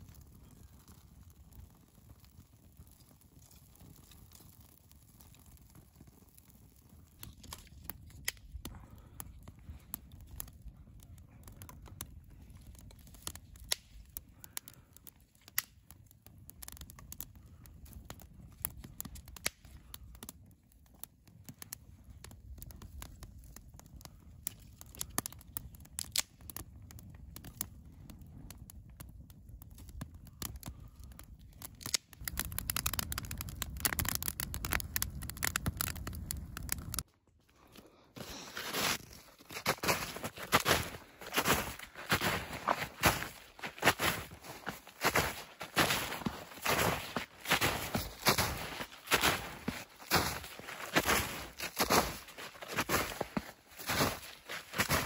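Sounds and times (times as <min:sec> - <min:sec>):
low rumble of flame: 0:00.0 - 0:54.9
wood fire crackling: 0:00.0 - 0:55.0.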